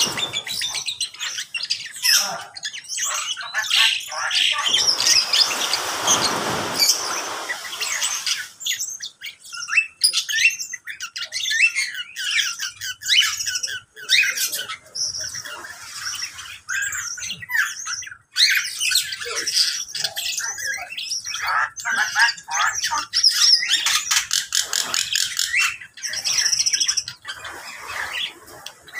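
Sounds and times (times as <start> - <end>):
caged birds chirping and squawking: 0.0 - 28.9.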